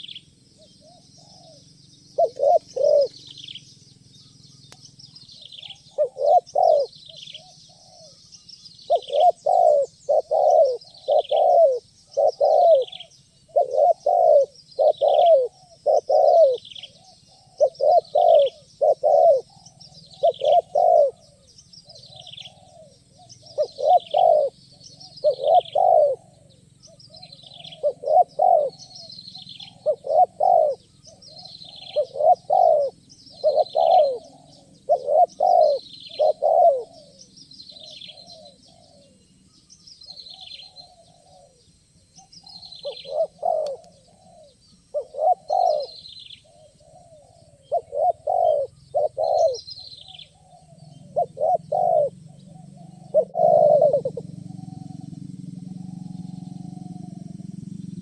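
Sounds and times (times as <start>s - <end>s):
doves cooing: 0.0s - 58.0s
small bird chirping: 0.0s - 58.0s.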